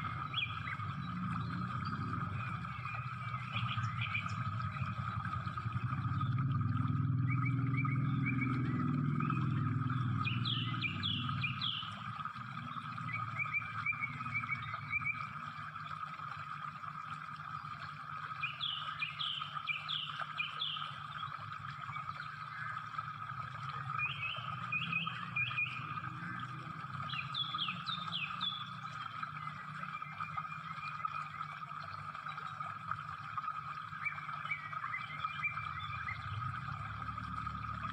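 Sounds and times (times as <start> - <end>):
low engine rumble: 0.0 - 19.8, 20.8 - 37.9
birds chirping: 0.0 - 37.9.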